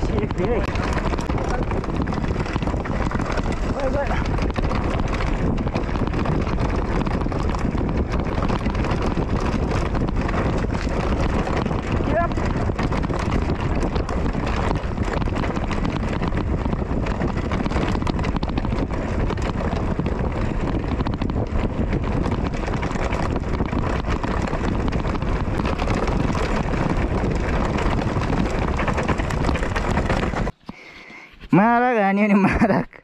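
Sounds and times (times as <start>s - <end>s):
wind rush on microphone: 0.0s - 31.8s
bike rattling over rough trail: 0.0s - 31.9s.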